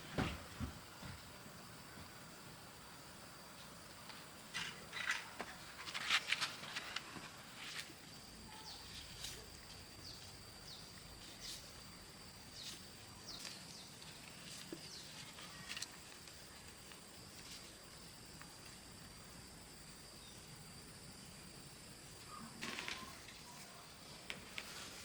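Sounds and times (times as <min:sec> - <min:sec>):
insect drone: 0:00.0 - 0:25.0.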